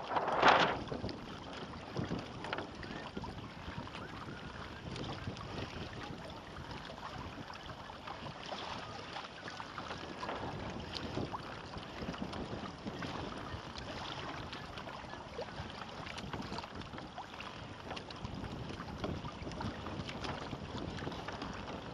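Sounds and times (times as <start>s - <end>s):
water splashing around kayak: 0.0s - 21.9s
wind on the microphone: 0.0s - 21.9s.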